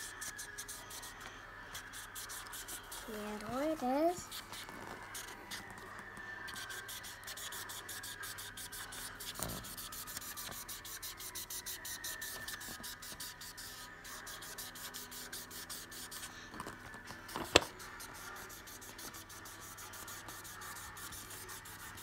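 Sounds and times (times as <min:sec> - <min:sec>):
marker scribbling on paper: 0:00.0 - 0:05.4, 0:06.5 - 0:16.4, 0:17.3 - 0:22.0.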